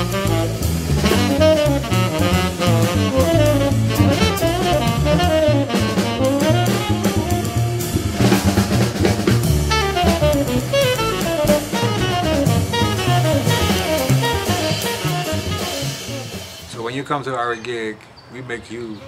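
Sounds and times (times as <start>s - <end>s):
bass drum hits: 0.0s - 16.7s
saxophone melody: 0.0s - 16.7s
jazz trio playing: 0.0s - 17.0s.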